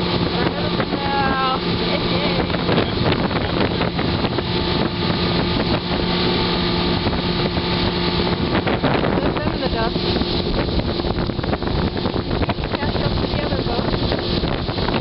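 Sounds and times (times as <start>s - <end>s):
outboard motorboat running: 0.0s - 15.0s
wind on microphone: 0.0s - 15.0s.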